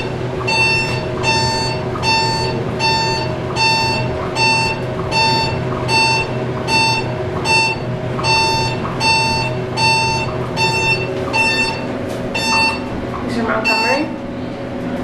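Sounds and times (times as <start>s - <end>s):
elevator two-tone beep: 0.0s - 14.2s
elevator car humming: 0.0s - 15.0s.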